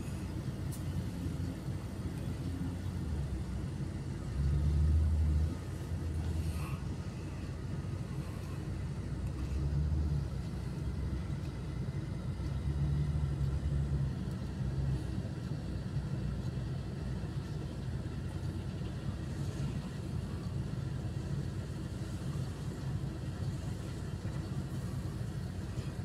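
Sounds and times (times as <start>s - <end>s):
wheel loader diesel engine under load: 0.0s - 26.0s.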